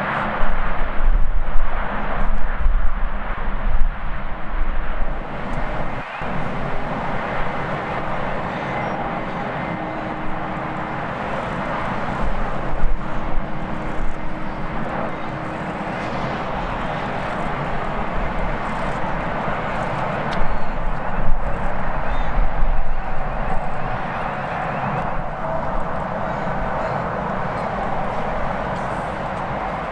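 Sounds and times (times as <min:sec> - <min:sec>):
jet engines roaring: 0:00.0 - 0:29.9
wind rumbling on microphone: 0:00.0 - 0:29.9.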